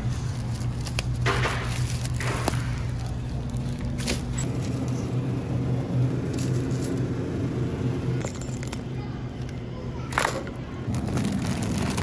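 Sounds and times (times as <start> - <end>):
supermarket background hum: 0.0 - 12.0.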